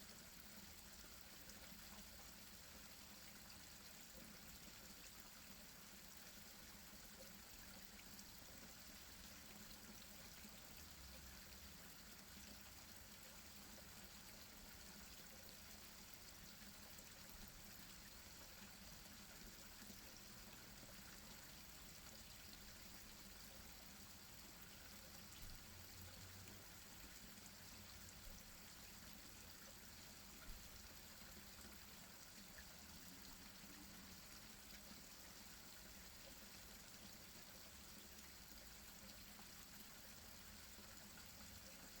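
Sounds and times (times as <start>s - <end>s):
small waterfall running: 0.0s - 42.0s.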